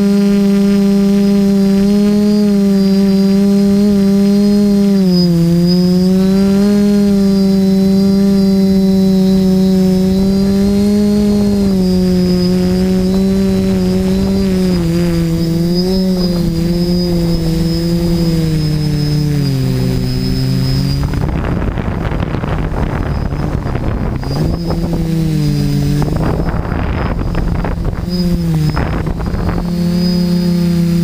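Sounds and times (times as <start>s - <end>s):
drone motors buzzing: 0.0s - 31.0s
wind rushing over microphone: 0.0s - 31.0s.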